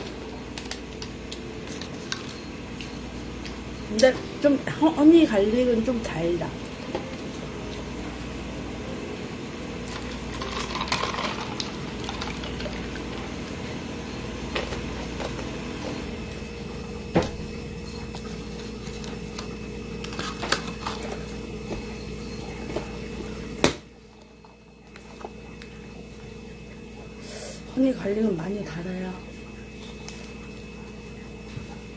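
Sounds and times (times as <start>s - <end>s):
steady background hum: 0.0s - 31.9s.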